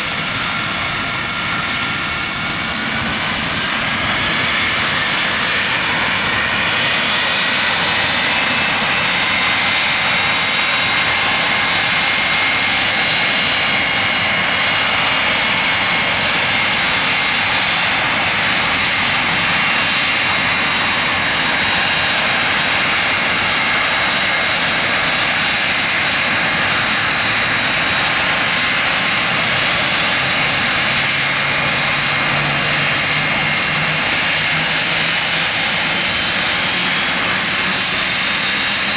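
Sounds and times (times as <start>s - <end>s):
high whining engine tones: 0.0s - 38.9s
jet engines running: 0.0s - 38.9s.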